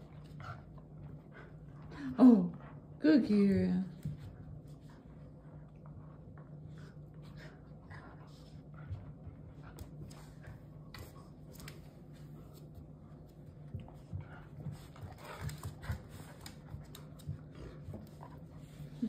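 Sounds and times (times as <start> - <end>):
paws scuffling on a mat: 3.3 - 19.0.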